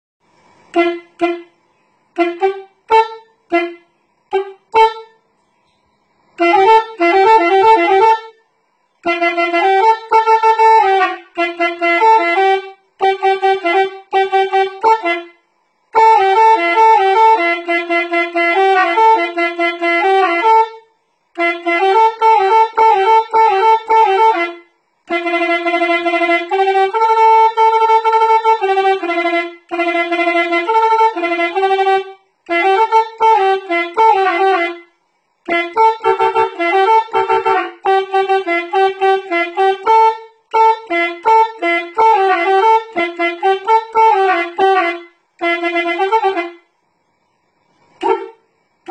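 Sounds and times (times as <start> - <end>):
solo instrument melody: 0.5 - 46.7.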